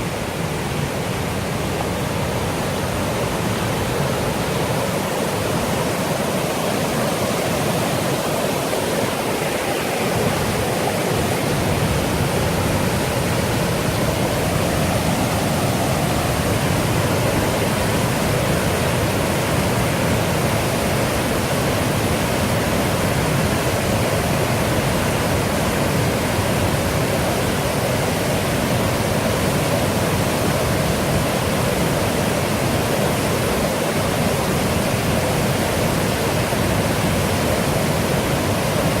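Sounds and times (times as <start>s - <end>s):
rushing river water: 0.0s - 39.0s.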